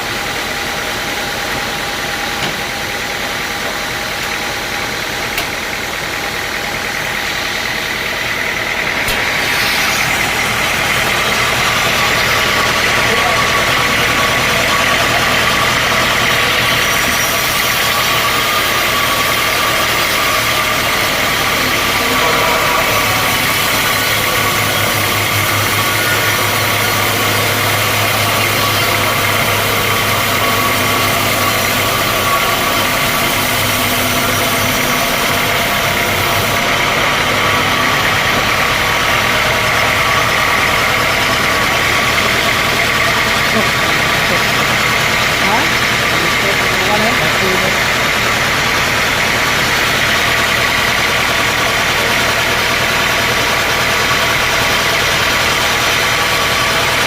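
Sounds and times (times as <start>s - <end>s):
high machine whine: 0.0s - 57.0s
sawmill machinery hum: 0.0s - 57.0s.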